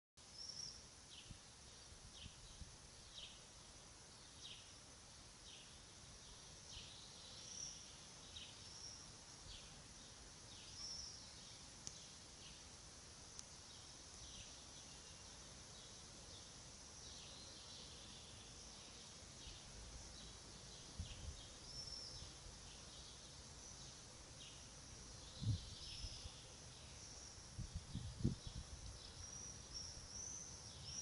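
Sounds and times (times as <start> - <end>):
steady high hiss: 0.2 - 31.0
bird chirping: 5.4 - 12.7, 13.4 - 31.0.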